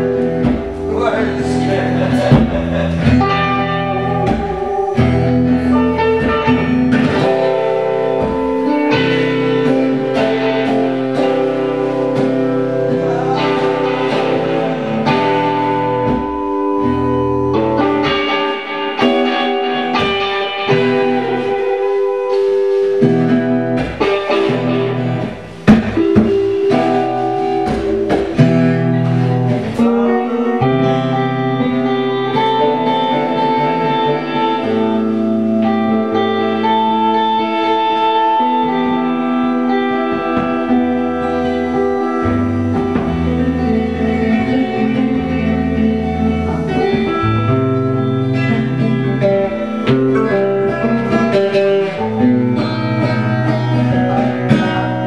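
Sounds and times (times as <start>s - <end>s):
live blues band playing: 0.0s - 55.0s.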